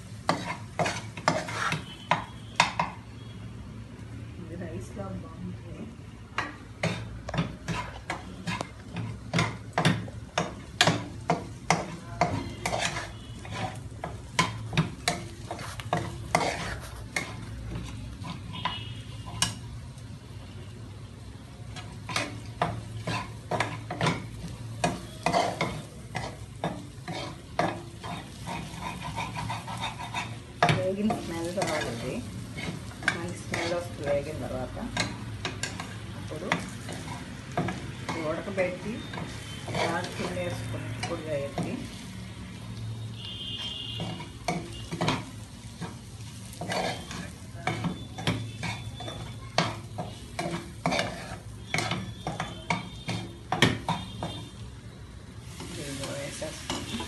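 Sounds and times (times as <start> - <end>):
spatula scraping a metal pan: 0.0 - 3.0, 6.4 - 19.6, 21.7 - 41.9, 43.2 - 54.6
spice mixture sizzling: 0.0 - 57.0.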